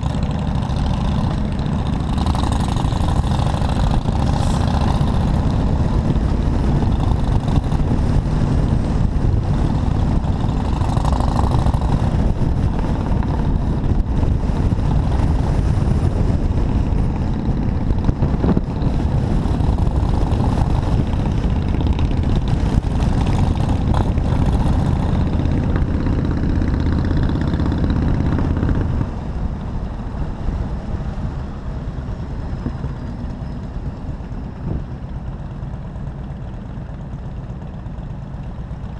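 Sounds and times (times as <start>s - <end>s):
motorcycle engine: 0.0s - 38.9s
road noise: 0.0s - 38.9s.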